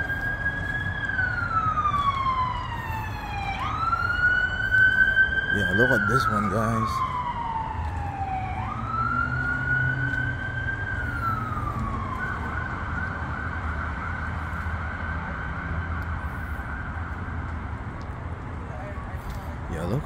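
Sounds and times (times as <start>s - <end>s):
emergency vehicle siren: 0.0s - 20.0s.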